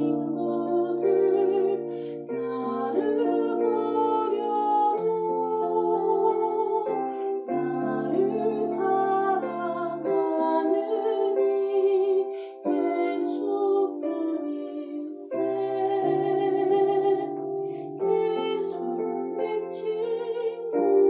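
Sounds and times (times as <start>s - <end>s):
slow hymn singing: 0.0s - 21.0s.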